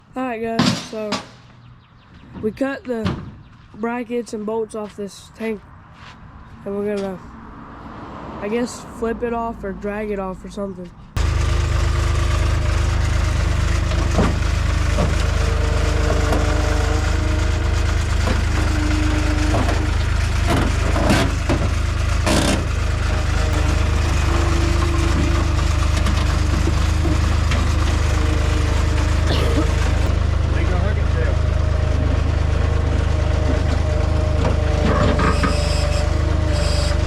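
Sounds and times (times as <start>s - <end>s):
diesel engine droning: 6.6s - 37.0s.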